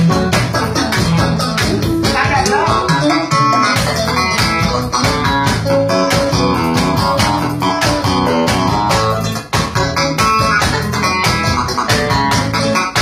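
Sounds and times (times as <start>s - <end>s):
electric guitar: 0.0s - 13.0s
keyboard playing upbeat tune: 0.0s - 13.0s
steady beat: 0.0s - 13.0s.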